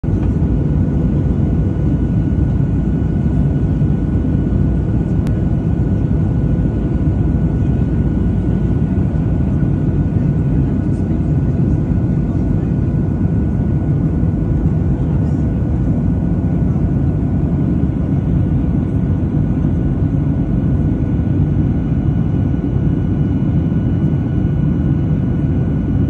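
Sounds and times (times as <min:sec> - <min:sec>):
faint engine whine: 0:00.0 - 0:26.0
jet engines and airflow rumble: 0:00.0 - 0:26.0.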